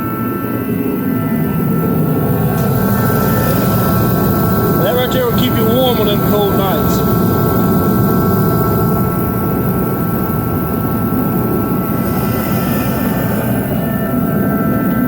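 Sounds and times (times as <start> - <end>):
forced-air heater running: 0.0 - 15.0
steady whine: 0.0 - 15.0.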